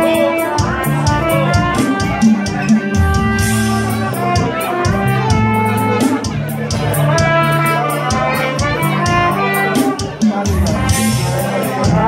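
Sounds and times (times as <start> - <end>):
drums with steady beat: 0.0 - 12.0
guitar: 0.0 - 12.0
trumpet melody: 0.0 - 12.0.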